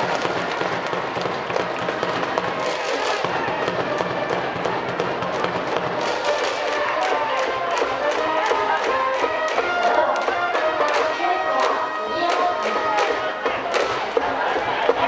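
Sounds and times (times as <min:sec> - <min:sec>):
crowd clapping and knocking: 0:00.0 - 0:15.0
crowd voices: 0:00.0 - 0:15.0
music: 0:00.0 - 0:15.0.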